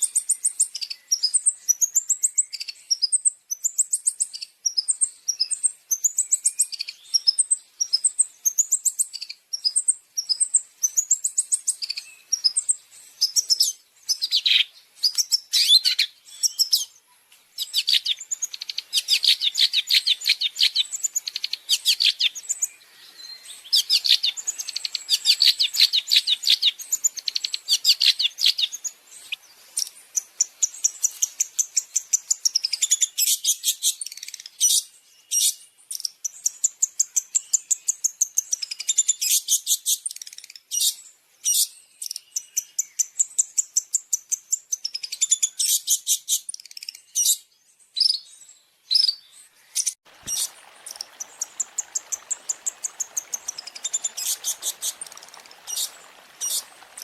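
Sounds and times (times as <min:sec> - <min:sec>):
bird chattering song: 0:00.0 - 0:16.9, 0:17.6 - 0:44.0, 0:48.0 - 0:57.0.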